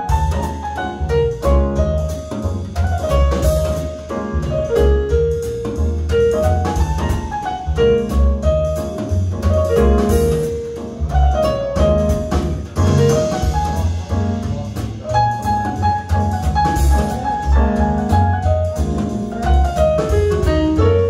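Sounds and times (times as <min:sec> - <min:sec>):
deep bass line: 0:00.0 - 0:21.0
drum kit: 0:00.0 - 0:21.0
piano: 0:00.0 - 0:21.0.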